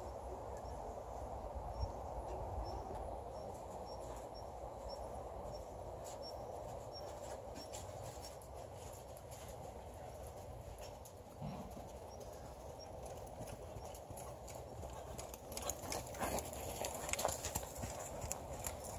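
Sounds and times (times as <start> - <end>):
horse hooves on sand: 1.8 - 18.9.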